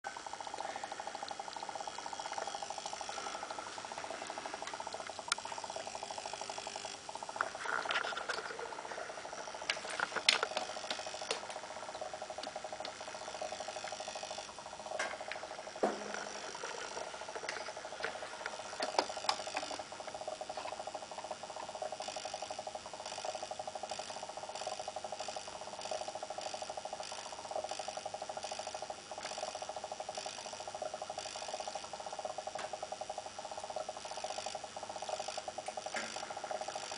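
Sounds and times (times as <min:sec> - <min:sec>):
crackles and clicks of bubbling gas: 0:00.1 - 0:36.9
steady mid-pitched tone: 0:00.1 - 0:36.9.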